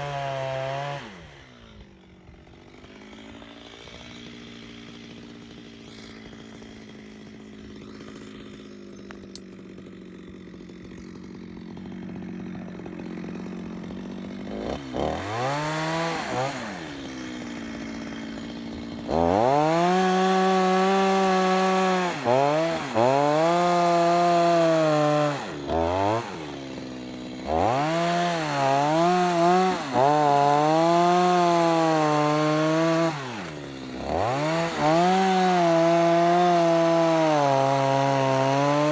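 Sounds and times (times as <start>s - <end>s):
chainsaw cutting into log: 0.0s - 38.9s.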